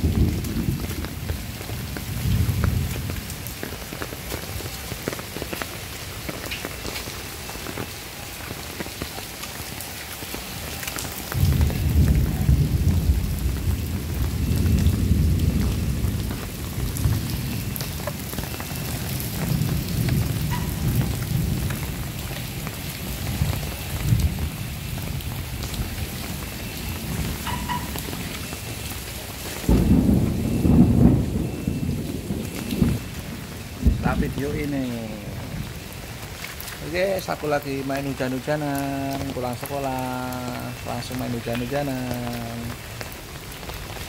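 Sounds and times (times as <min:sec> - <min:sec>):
thunder rumbling: 0:00.0 - 0:08.9, 0:10.9 - 0:38.5
rain falling: 0:00.0 - 0:44.0.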